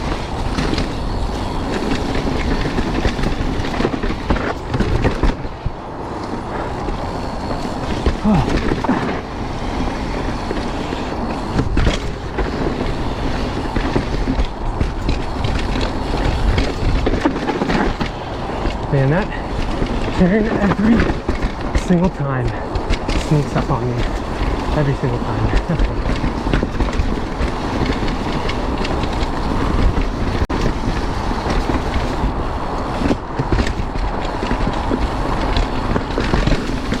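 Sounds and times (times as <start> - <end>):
bike rattling over roots: 0.0 - 37.0
tyres rumbling on dirt: 0.0 - 37.0
wind on microphone: 0.0 - 37.0.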